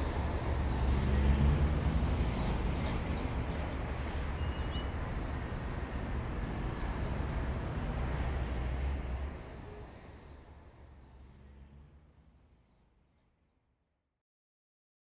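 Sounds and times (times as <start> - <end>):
street traffic rumble: 0.0 - 13.6.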